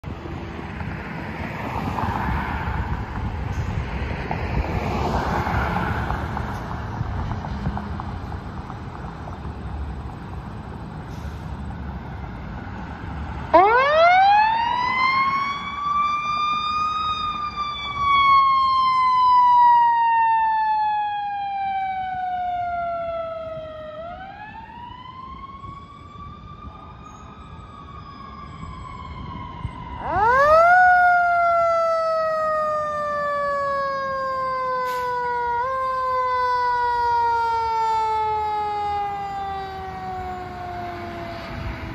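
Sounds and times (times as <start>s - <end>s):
fire engine siren wailing: 0.0s - 41.9s
road noise: 0.0s - 41.9s
vehicle engines rumbling: 0.0s - 41.9s.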